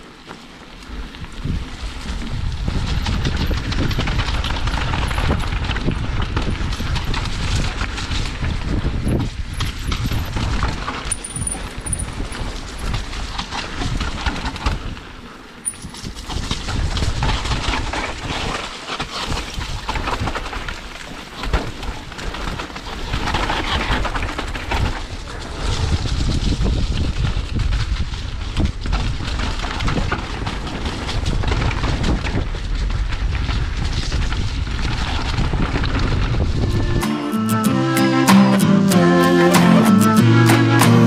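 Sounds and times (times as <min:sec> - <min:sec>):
tyres rumbling over dirt and rocks: 0:00.0 - 0:36.8
bike rattling and knocking: 0:00.1 - 0:36.6
wind buffeting microphone: 0:00.9 - 0:37.0.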